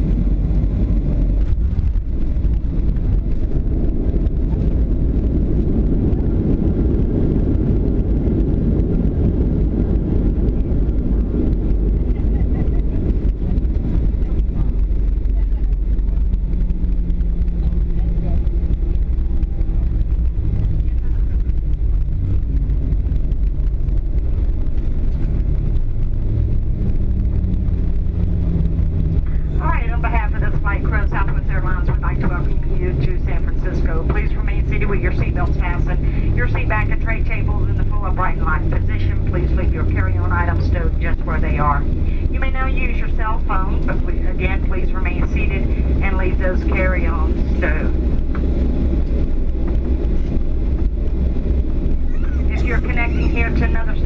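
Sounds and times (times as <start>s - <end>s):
airliner cabin rumble: 0.0s - 54.0s
low even hum: 0.0s - 54.0s.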